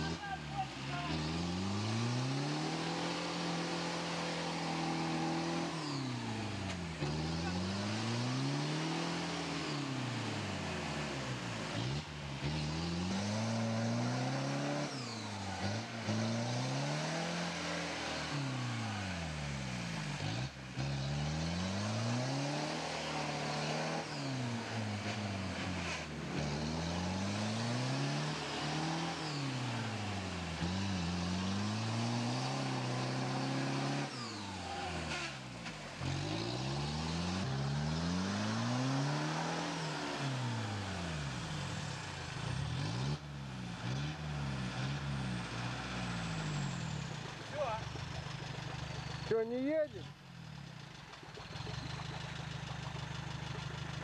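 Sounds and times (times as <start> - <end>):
engine revving in mud: 0.0 - 54.0.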